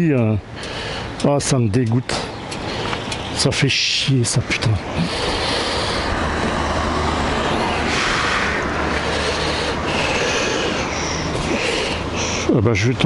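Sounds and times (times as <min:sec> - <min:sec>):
steady rushing noise: 0:02.2 - 0:13.0.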